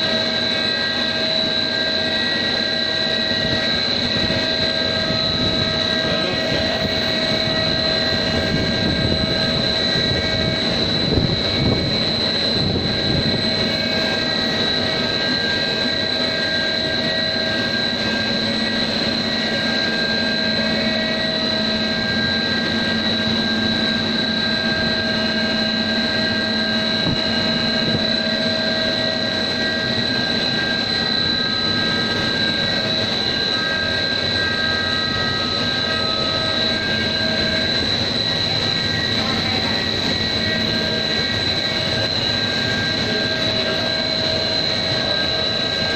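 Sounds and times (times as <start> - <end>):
high-pitched whine: 0.0 - 45.9
mechanical drone: 0.0 - 45.9.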